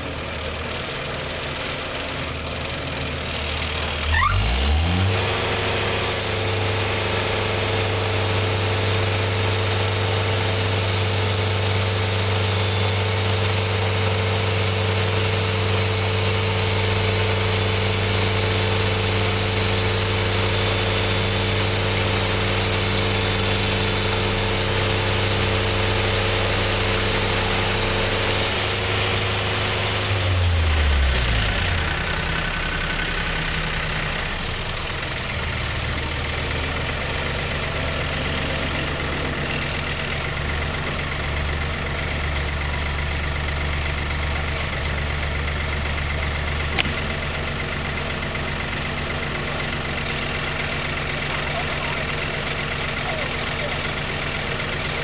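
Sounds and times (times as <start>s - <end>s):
sawmill engine revving: 0.0s - 55.0s.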